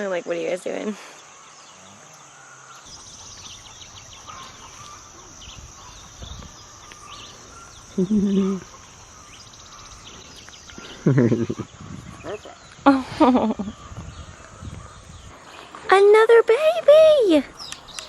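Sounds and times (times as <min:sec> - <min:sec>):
outdoor background hiss: 0:00.0 - 0:18.0
birds chirping: 0:01.2 - 0:18.0.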